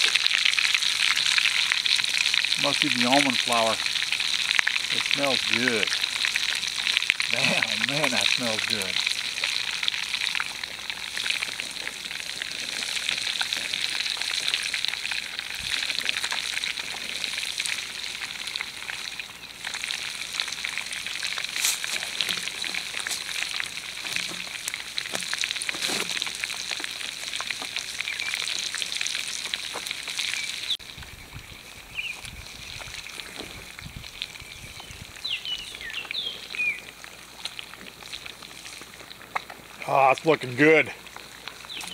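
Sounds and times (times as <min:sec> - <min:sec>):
fish sizzling in oil: 0:00.0 - 0:41.9.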